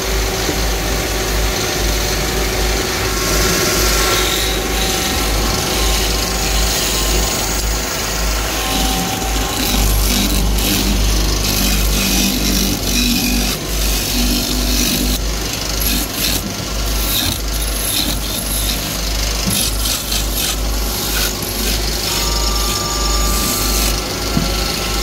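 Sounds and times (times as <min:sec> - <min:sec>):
lathe motor hum: 0:00.0 - 0:25.0
turning tool scraping wood: 0:03.2 - 0:24.8.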